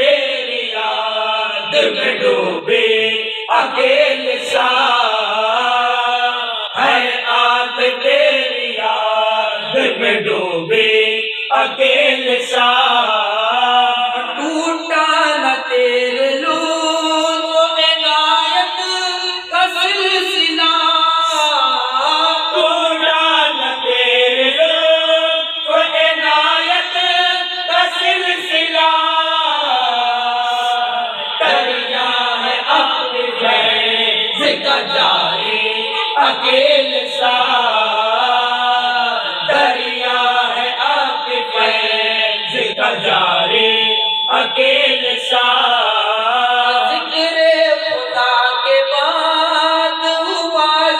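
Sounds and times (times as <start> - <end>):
men chanting unaccompanied: 0.0 - 50.9.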